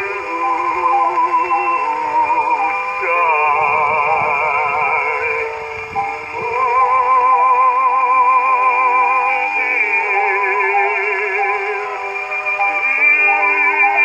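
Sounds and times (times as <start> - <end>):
baritone singing with vibrato: 0.0 - 14.0
record surface hiss: 0.0 - 14.0.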